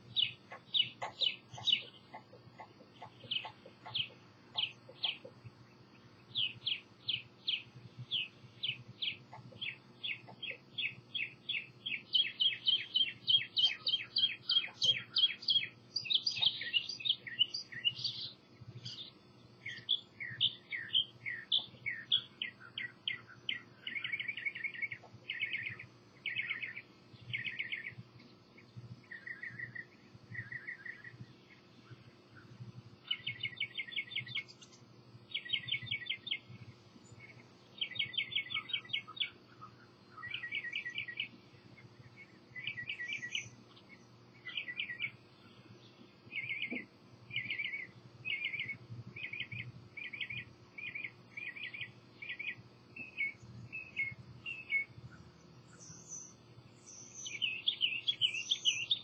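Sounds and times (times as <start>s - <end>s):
buzzy bird trills: 0.0s - 28.0s, 31.8s - 59.0s
songbirds chirping: 0.0s - 59.0s.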